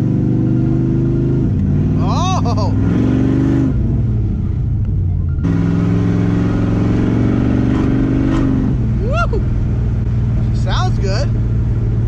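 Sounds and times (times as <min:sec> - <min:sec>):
car engine revving while driving: 0:00.0 - 0:12.0.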